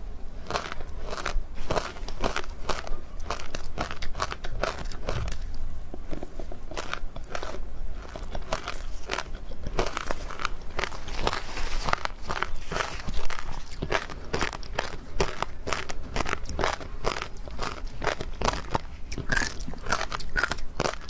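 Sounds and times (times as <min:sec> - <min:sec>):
person crunching ice: 0:00.4 - 0:21.0.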